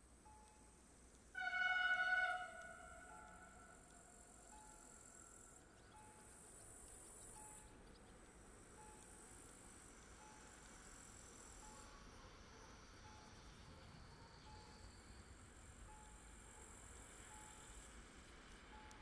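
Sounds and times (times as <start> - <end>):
insects chirring: 0.5 - 18.7.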